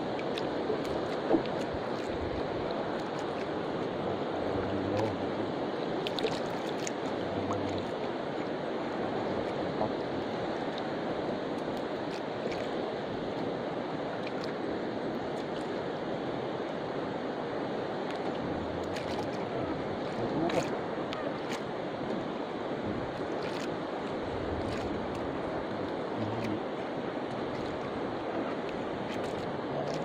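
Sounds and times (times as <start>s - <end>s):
water lapping against hull: 0.0s - 30.0s.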